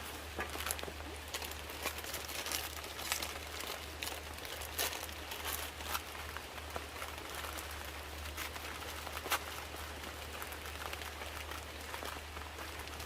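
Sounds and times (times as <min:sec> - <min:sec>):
rain falling steadily: 0:00.0 - 0:13.0.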